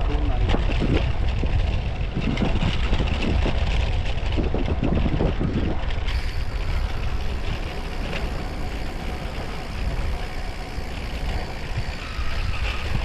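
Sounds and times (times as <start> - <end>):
road noise: 0.0 - 13.0
wind rushing over microphone: 0.0 - 13.0.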